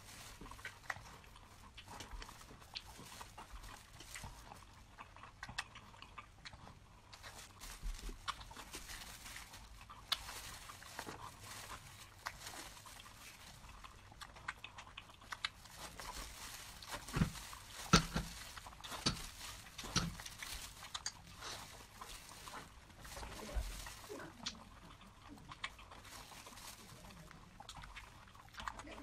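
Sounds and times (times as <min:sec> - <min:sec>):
chewing and mouth noises: 0:00.0 - 0:29.0.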